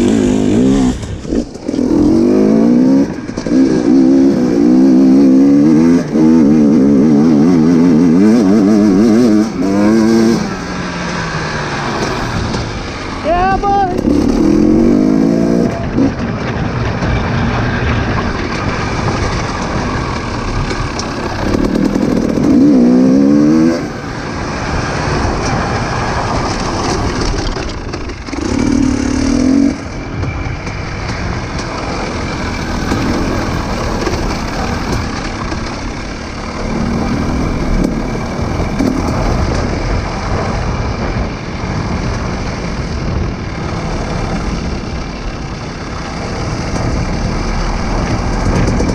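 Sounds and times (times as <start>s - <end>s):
off-road vehicle engine revving: 0.0s - 16.7s, 17.8s - 30.0s, 31.5s - 48.9s.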